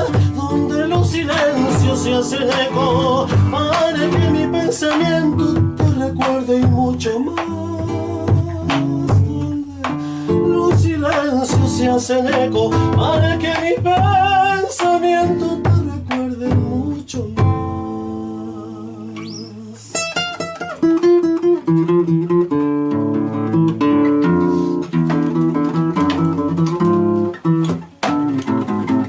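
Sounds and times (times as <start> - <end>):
acoustic guitar playing: 0.0 - 29.0.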